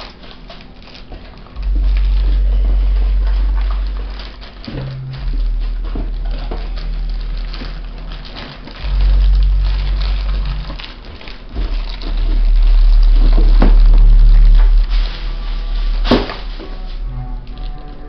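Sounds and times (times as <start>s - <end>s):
plastic bag crinkling: 0.0s - 18.0s
loud low rumble: 1.5s - 18.0s.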